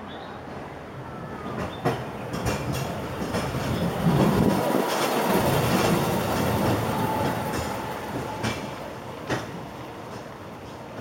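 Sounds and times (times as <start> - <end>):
funicular car running on rails: 1.4 - 11.0.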